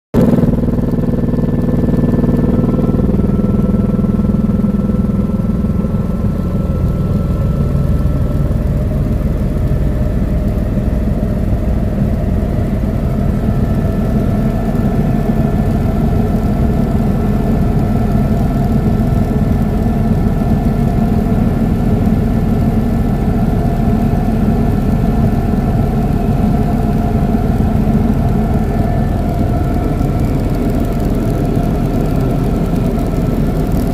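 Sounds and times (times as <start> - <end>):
helicopter engine and rotor: 0.2 - 33.9.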